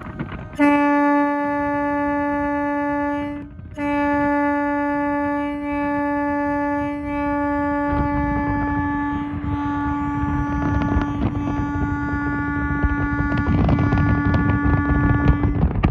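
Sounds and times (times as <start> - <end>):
ship's horn blasts: 0.0 - 15.9.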